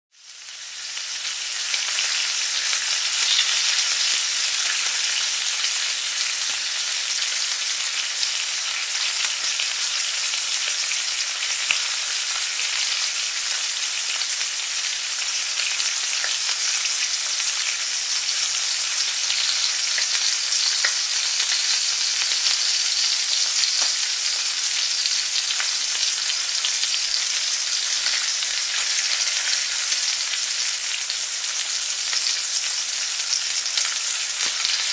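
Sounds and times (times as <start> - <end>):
food sizzling in a pan: 0.1 - 34.9.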